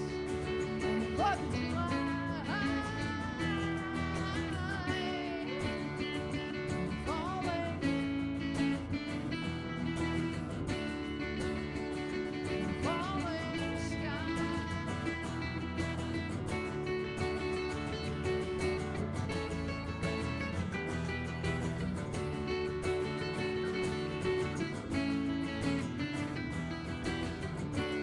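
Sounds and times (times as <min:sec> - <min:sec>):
acoustic guitars strumming: 0:00.0 - 0:28.0
sliding lead melody: 0:00.0 - 0:28.0.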